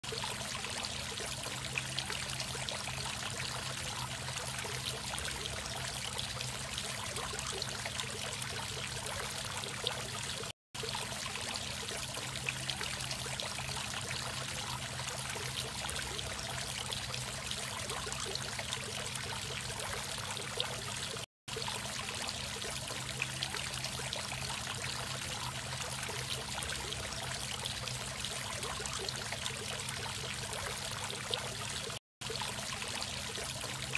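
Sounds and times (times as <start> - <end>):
fountain water splashing and trickling: 0.0 - 33.9.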